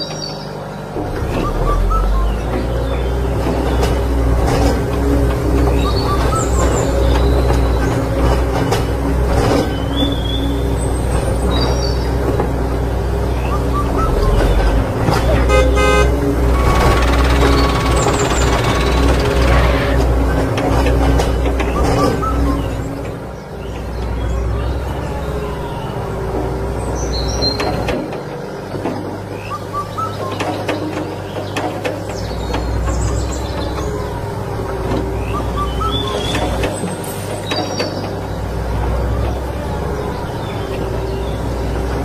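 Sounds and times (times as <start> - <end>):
heavy machinery engine droning: 0.0 - 42.0.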